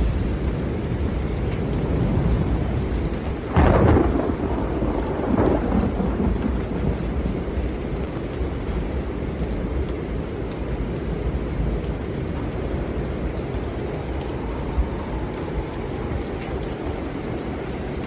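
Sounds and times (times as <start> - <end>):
stormy wind blowing: 0.0 - 18.0.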